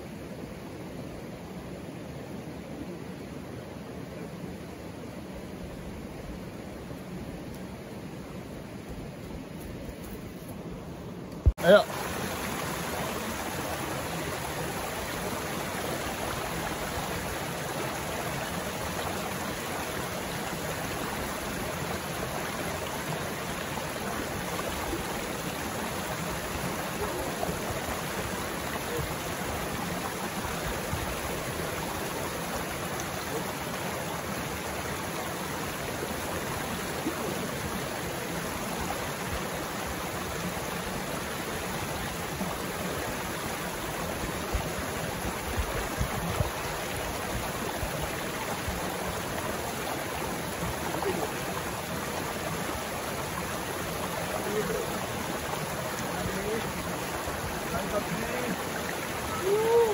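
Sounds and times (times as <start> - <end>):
water running over rocks: 11.4 - 59.9.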